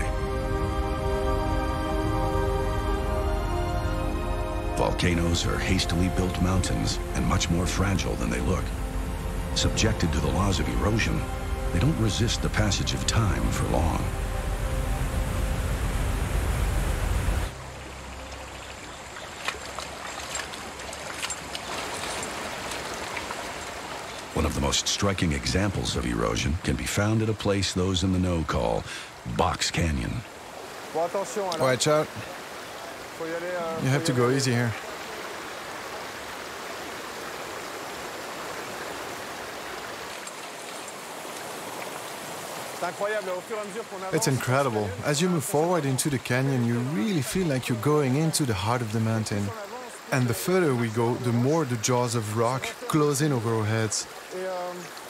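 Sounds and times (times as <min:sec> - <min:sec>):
water trickling: 0:00.0 - 0:55.0
waterfall rushing: 0:00.0 - 0:55.0.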